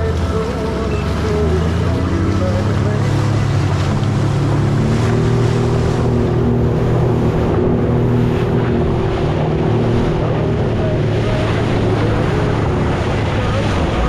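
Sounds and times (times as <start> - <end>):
motorboat engine running: 0.0 - 14.0
splashing water: 0.0 - 14.0
wind: 0.0 - 14.0.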